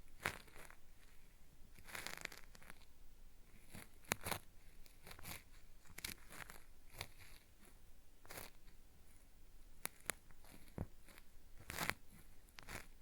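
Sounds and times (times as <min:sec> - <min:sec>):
cotton swab scraping microphone: 0:00.0 - 0:02.9, 0:03.5 - 0:09.2, 0:09.8 - 0:13.0.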